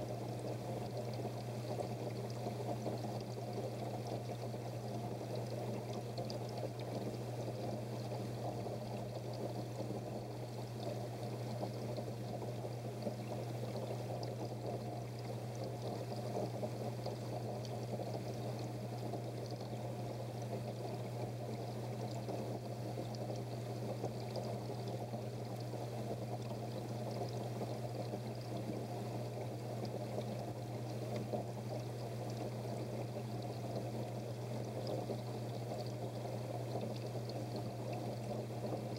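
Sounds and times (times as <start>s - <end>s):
water pouring into fish tank: 0.0s - 38.9s.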